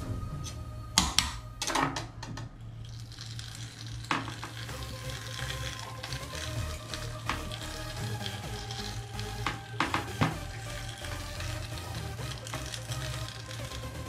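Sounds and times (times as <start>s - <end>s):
quiet background music: 0.0s - 14.0s
wet crackling and squelching meat: 2.7s - 14.0s.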